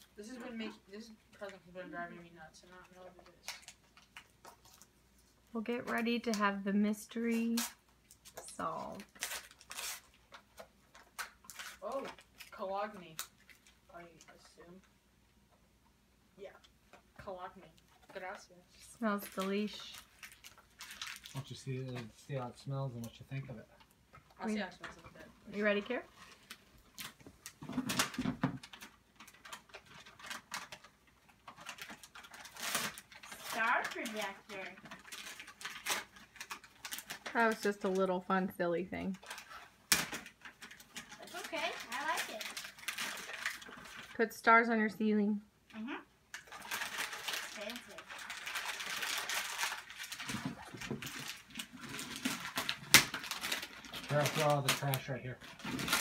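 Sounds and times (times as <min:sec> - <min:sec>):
wrapping paper crinkling and tearing: 0:00.0 - 0:06.4, 0:07.1 - 0:14.8, 0:17.9 - 0:22.3, 0:24.4 - 0:38.2, 0:39.1 - 0:44.2, 0:46.3 - 0:56.0.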